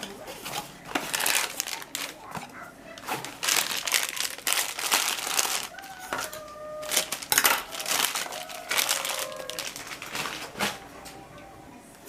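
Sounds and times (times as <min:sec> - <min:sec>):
packaging crinkling and rustling: 0:00.0 - 0:11.2.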